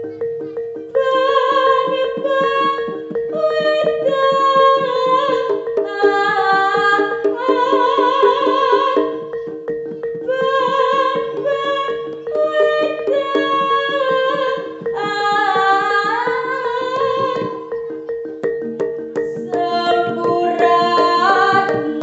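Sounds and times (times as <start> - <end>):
high voice singing: 0.0 - 18.4, 19.2 - 22.0.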